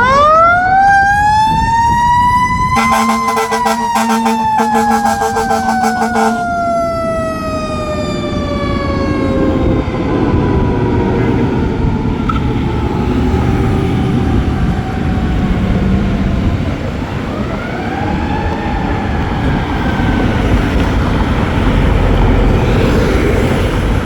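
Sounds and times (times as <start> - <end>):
engine and road rumble: 0.0 - 24.0
fire engine siren wailing: 0.0 - 24.0.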